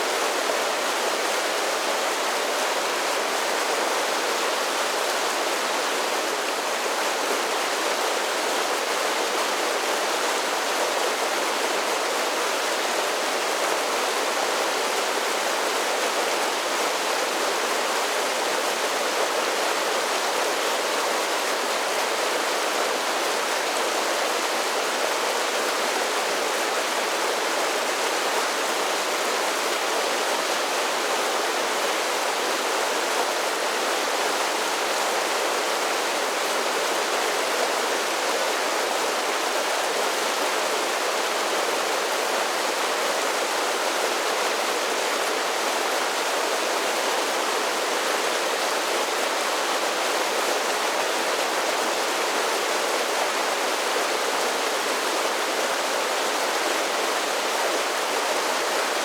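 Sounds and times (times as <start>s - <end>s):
creek water rushing over falls: 0.0s - 59.0s.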